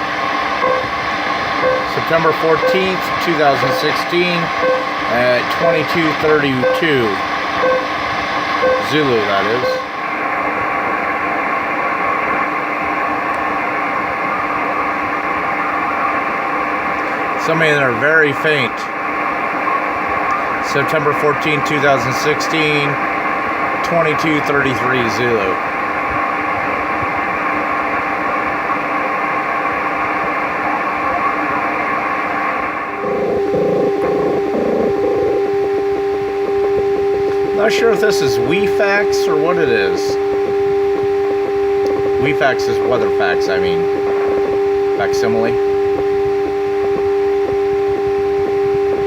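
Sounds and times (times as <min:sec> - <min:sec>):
faint steady radio tones: 0:00.0 - 0:49.0
radio static hiss: 0:00.0 - 0:49.0.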